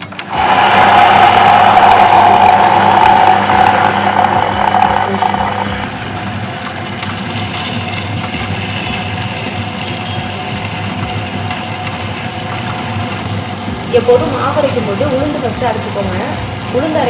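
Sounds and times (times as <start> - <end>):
wet grinder motor humming: 0.2 - 17.0.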